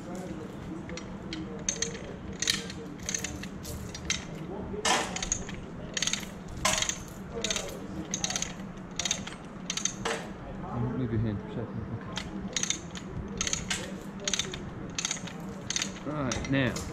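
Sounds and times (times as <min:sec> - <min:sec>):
chain rattling: 0:00.0 - 0:10.4, 0:12.1 - 0:16.9
chain hoist ratchet clicks: 0:00.1 - 0:10.3, 0:12.1 - 0:16.9.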